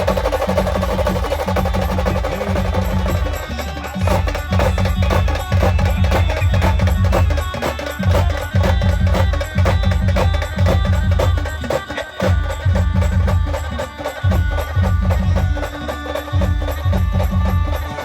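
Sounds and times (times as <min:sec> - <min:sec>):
dance band music: 0:00.0 - 0:18.0.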